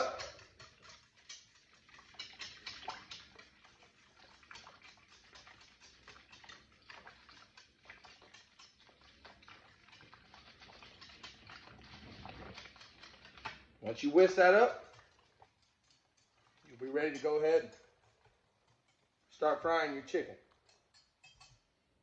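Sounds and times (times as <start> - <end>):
whisk clicking against bowl: 0.0 - 19.1, 20.5 - 21.7.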